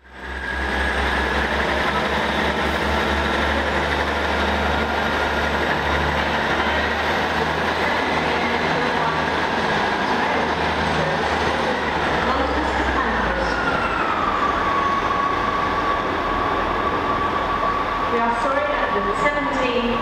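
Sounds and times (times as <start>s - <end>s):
train diesel engines throbbing: 0.0s - 20.0s.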